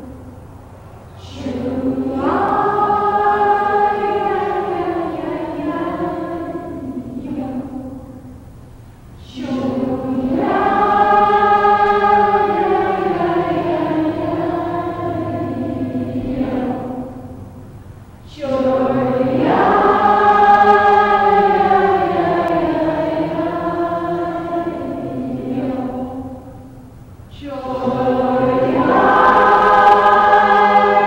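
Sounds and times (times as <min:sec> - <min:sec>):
group of voices singing: 0:01.2 - 0:08.2, 0:09.2 - 0:17.6, 0:18.3 - 0:31.0.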